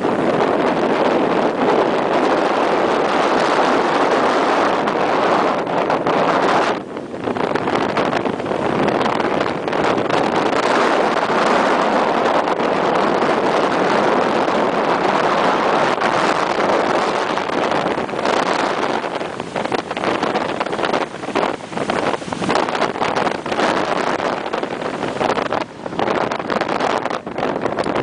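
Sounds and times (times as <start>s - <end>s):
car wind and road noise: 0.0s - 28.0s
river rushing: 0.0s - 28.0s.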